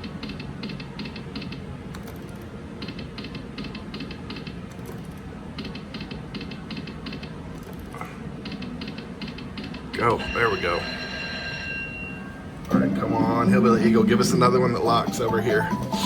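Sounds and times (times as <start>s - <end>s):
low casino background rumble: 0.0s - 16.0s.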